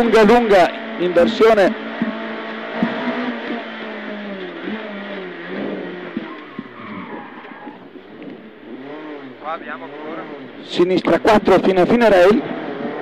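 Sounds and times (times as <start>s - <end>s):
car engine from inside cabin: 0.0s - 13.0s.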